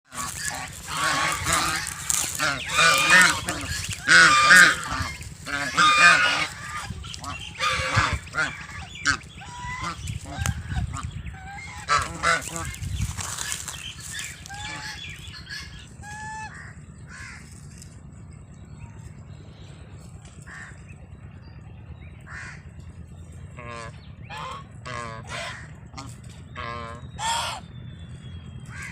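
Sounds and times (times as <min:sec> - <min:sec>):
farm birds calling: 0:00.0 - 0:28.9.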